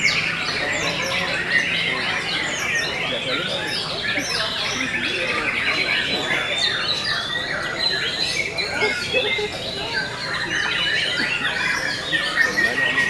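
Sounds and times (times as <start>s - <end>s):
birds whistling and chirping: 0.0s - 13.0s.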